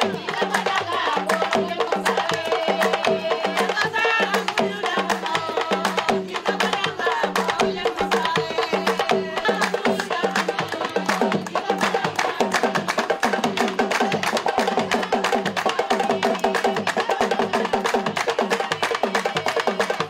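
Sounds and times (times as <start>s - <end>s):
fast woody hand percussion: 0.0s - 20.0s
women singing together: 0.0s - 20.0s.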